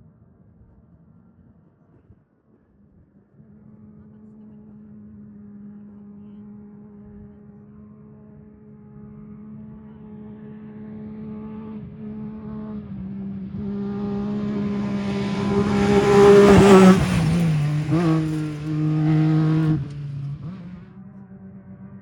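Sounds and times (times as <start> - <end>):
race vehicle engine passing by: 3.4 - 22.0.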